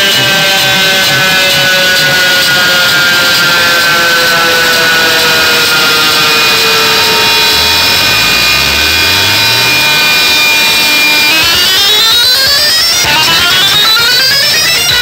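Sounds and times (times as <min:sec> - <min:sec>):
electronic falling sweep effect: 0:00.0 - 0:15.0
low rising tone: 0:00.1 - 0:14.8.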